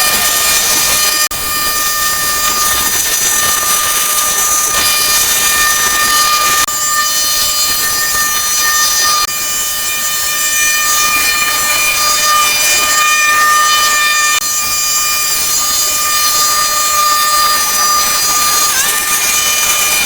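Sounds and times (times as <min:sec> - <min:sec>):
high-pitched mechanical whine: 0:00.0 - 0:20.0.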